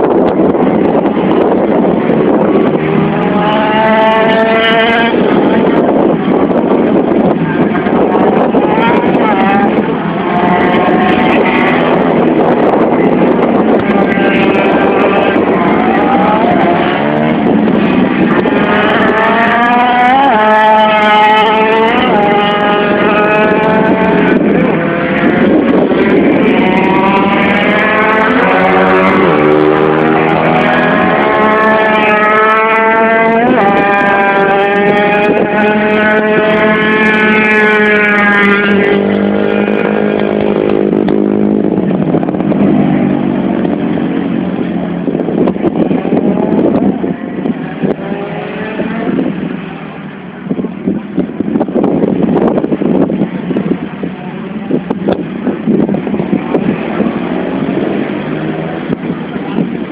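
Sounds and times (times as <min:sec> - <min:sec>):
small racing engines revving: 0:00.0 - 0:59.9.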